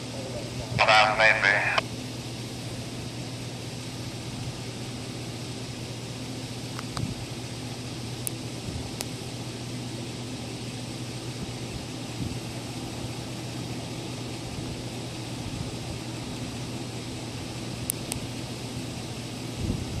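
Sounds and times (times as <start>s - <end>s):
constant hiss: 0.0s - 20.0s
diesel truck engine running: 0.0s - 20.0s.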